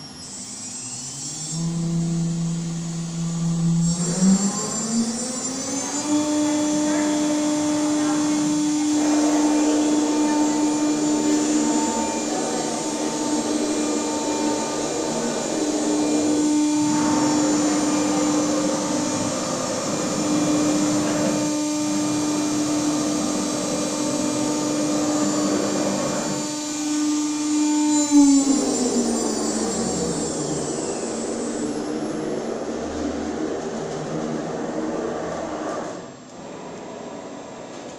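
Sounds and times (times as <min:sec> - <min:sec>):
router spindle high whine: 0:00.0 - 0:37.4.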